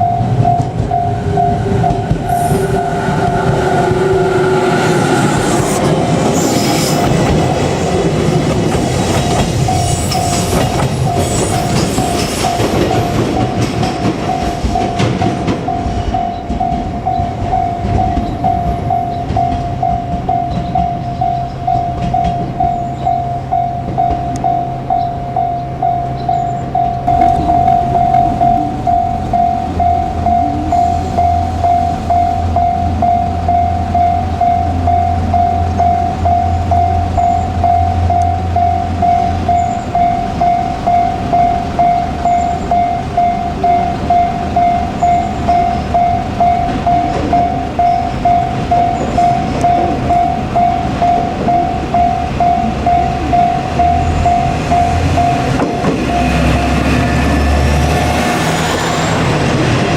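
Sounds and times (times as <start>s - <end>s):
level crossing alarm ringing: 0.0s - 59.9s
train rumbling on tracks: 0.0s - 59.9s.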